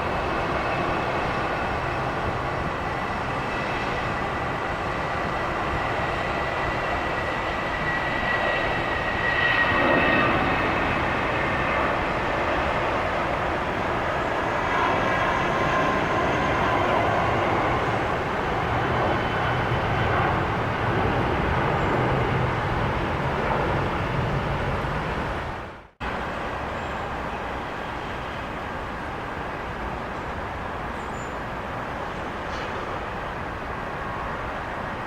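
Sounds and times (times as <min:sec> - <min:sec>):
jet engine rumble and hiss: 0:00.0 - 0:35.0.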